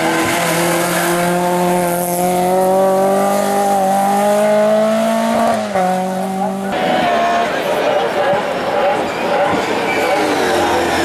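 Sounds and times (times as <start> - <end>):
racing car engine revving: 0.0 - 11.0.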